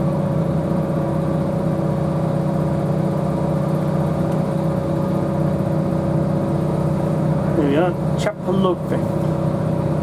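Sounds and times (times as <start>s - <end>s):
train engine and running drone: 0.0s - 10.0s.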